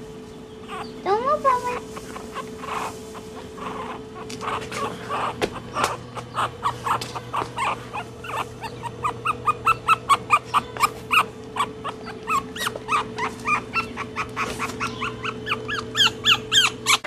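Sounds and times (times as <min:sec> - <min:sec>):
steady low hum: 0:00.0 - 0:17.0
puppies yipping: 0:00.5 - 0:17.0.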